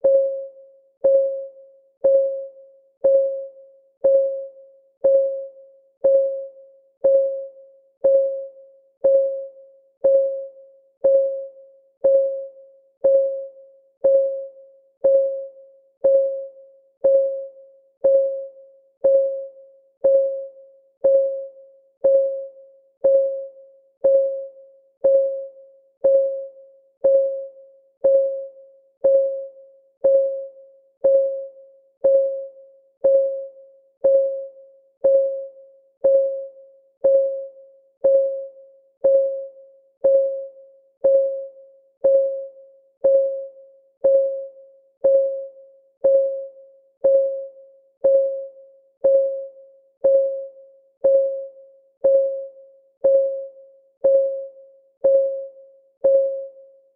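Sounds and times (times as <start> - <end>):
countdown timer ticking: 1.0 - 1.4, 2.0 - 56.6.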